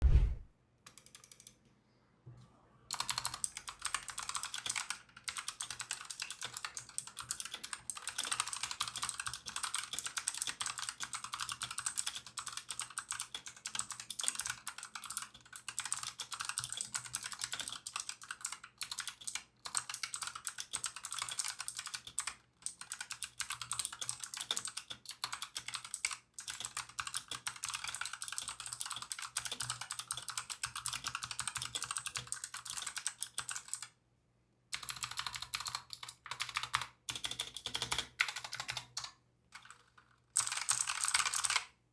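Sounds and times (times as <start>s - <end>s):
clicky keyboard typing: 0.0s - 1.6s, 2.9s - 33.9s, 34.8s - 41.7s.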